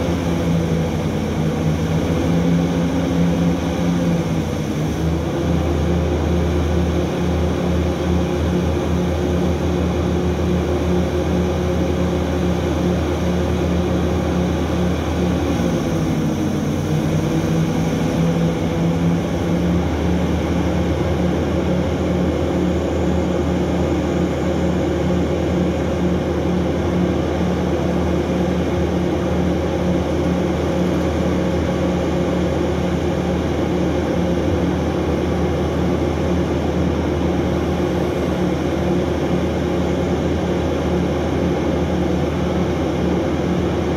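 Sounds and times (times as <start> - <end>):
large diesel engines droning: 0.0 - 43.9.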